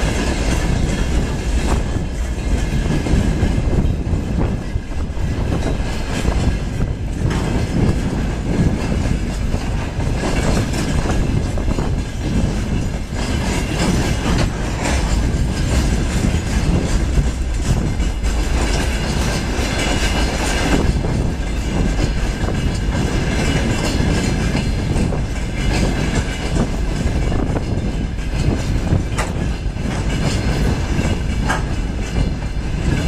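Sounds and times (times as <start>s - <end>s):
freight train rumbling past: 0.0s - 33.0s
wheels clacking over rail joints: 0.0s - 33.0s.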